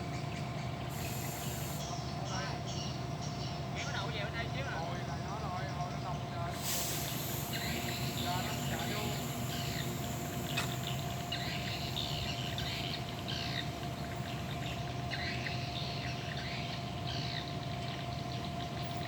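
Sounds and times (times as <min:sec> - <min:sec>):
birds chirping: 0:00.0 - 0:04.1, 0:05.2 - 0:19.0
low engine hum: 0:00.0 - 0:19.0.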